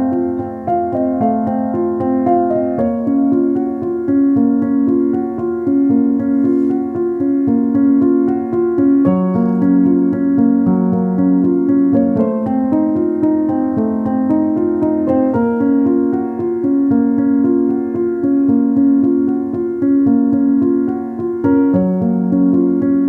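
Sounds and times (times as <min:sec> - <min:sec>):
keyboard piano chords: 0:00.0 - 0:23.0.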